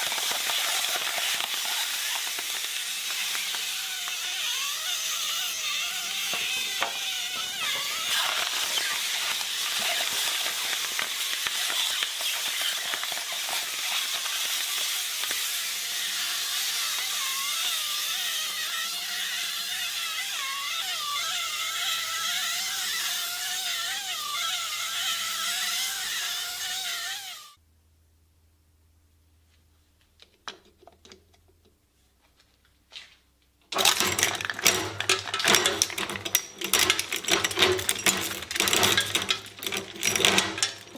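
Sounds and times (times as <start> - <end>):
shredder grinding: 0.0 - 27.6, 33.8 - 40.9.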